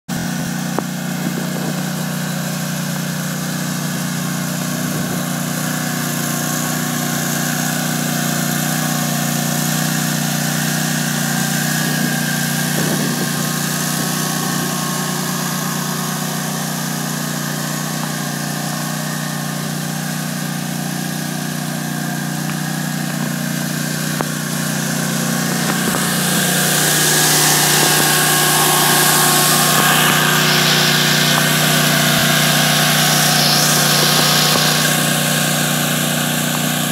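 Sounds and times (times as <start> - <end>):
mower engine idling: 0.1 - 36.9.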